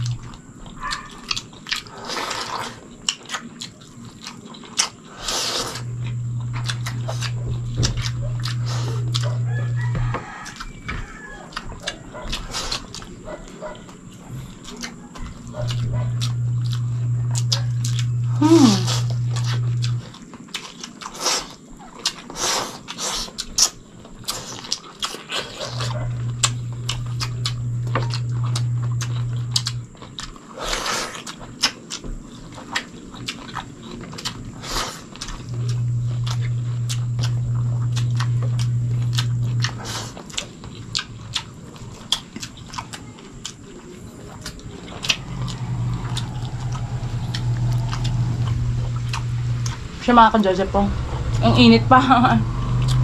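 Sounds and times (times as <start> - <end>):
low steady hum: 0.0 - 20.2, 25.6 - 30.2, 33.2 - 53.0
people chewing with mouth clicks: 0.0 - 50.0.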